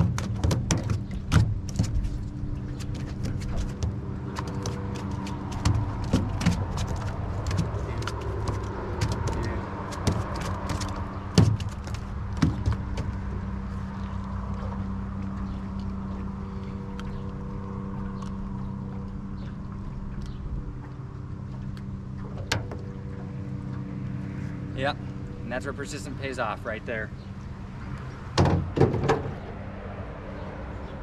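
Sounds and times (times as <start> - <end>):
knocks and clicks in boat: 0.0 - 17.4, 18.0 - 24.6, 27.2 - 29.5
boat motor running: 0.0 - 31.0.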